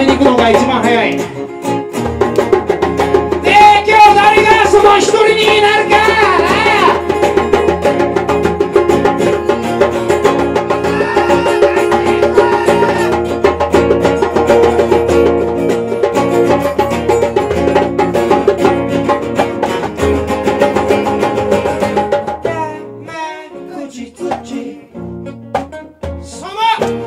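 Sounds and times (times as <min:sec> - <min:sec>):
live band with guitar: 0:00.0 - 0:27.0.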